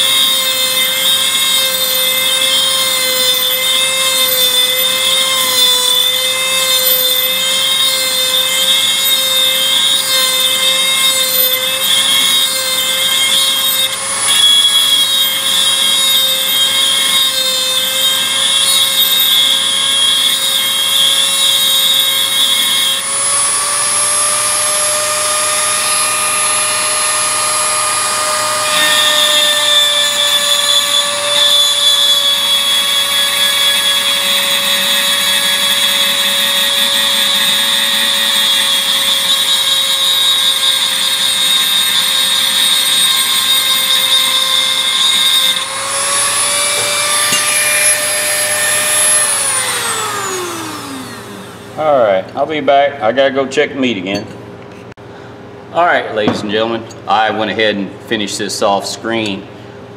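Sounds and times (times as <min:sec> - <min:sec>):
grinding bit on steel: 0:00.0 - 0:51.6
rotary tool motor whine: 0:00.0 - 0:51.8.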